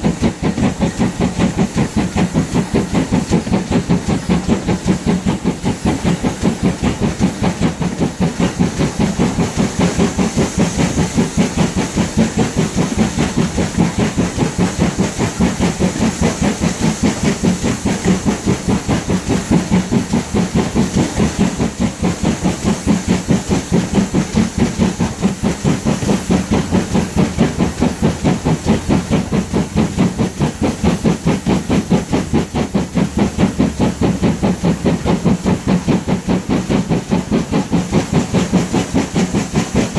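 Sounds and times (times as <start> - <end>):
steam hissing: 0.0 - 39.9
steam locomotive exhaust beats: 0.0 - 39.9.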